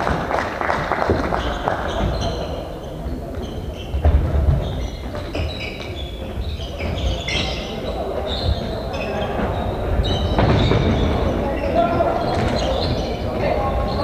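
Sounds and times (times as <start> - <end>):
shoe squeaks on court floor: 1.3 - 14.0.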